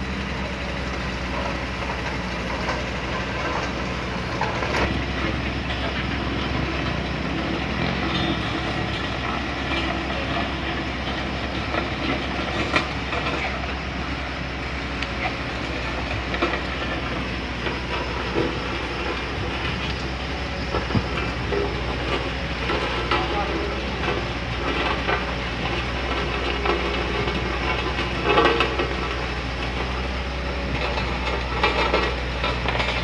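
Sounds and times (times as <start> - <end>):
diesel engines rumbling: 0.0 - 33.0
metal clanks and knocks: 1.4 - 13.8, 15.2 - 30.0, 30.7 - 33.0.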